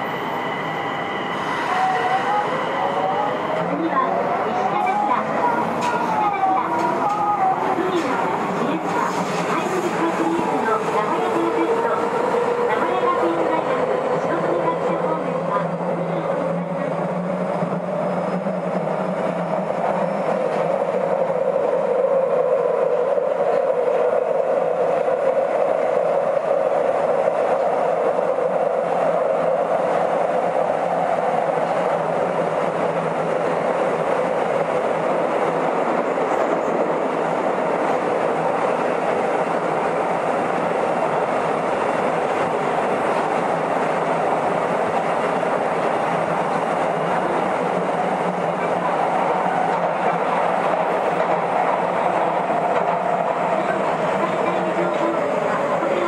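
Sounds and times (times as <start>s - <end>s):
subway car rolling noise: 0.0s - 56.0s.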